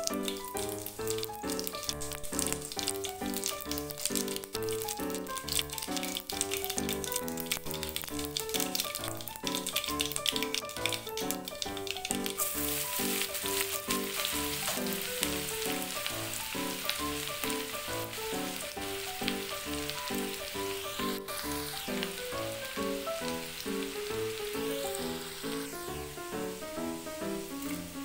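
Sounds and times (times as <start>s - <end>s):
background music with quick notes: 0.0s - 28.0s
hot oil sizzling: 0.0s - 28.0s.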